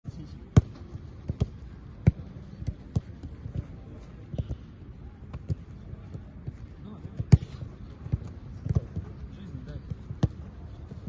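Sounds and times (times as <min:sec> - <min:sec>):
footballs kicked thuds: 0:00.4 - 0:11.0.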